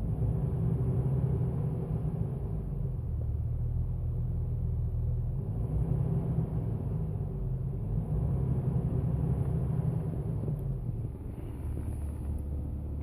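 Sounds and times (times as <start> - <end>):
engine running with low buzz: 0.0 - 13.0.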